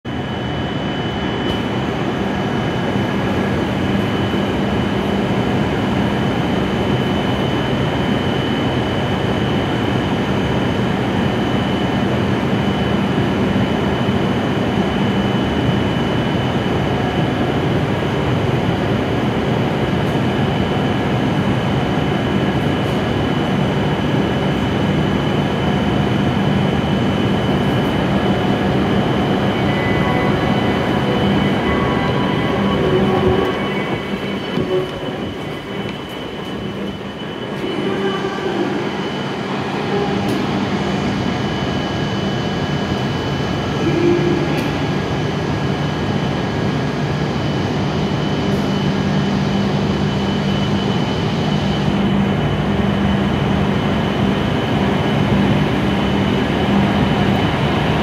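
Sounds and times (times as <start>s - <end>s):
high constant whine: 0.1s - 58.0s
train equipment hum: 0.1s - 58.0s.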